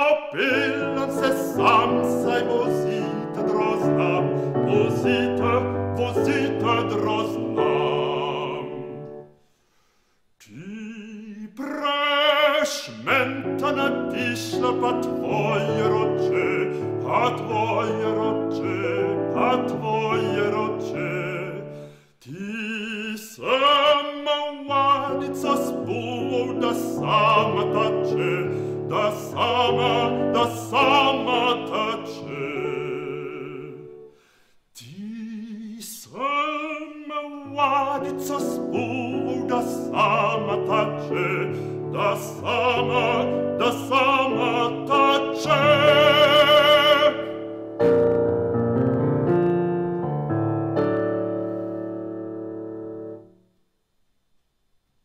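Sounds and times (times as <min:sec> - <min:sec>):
man singing operatically: 0:00.0 - 0:09.4, 0:10.4 - 0:47.8
piano accompaniment: 0:00.0 - 0:09.4, 0:11.6 - 0:22.0, 0:23.4 - 0:34.2, 0:36.2 - 0:53.4.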